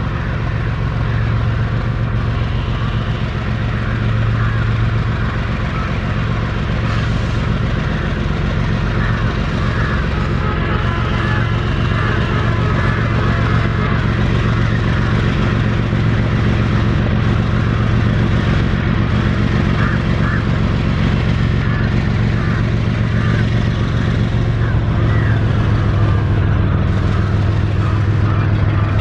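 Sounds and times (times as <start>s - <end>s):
locomotive diesel engine droning: 0.0s - 29.0s.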